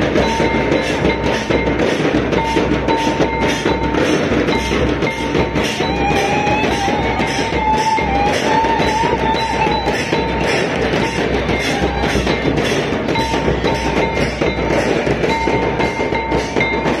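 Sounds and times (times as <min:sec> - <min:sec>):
frame drum beating fast rhythm: 0:00.0 - 0:17.0
high held melodic tone: 0:00.0 - 0:17.0.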